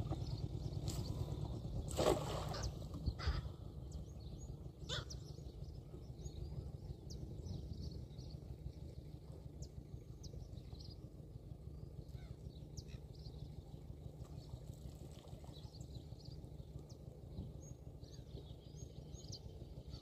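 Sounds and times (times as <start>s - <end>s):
low steady rumble: 0.0s - 20.0s
small birds chirping: 0.0s - 20.0s.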